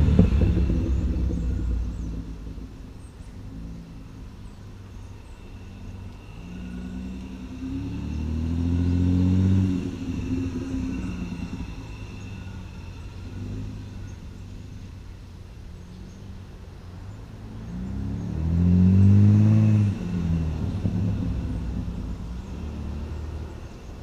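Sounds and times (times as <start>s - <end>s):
raspy car exhaust revving: 0.0s - 16.2s, 17.5s - 24.0s.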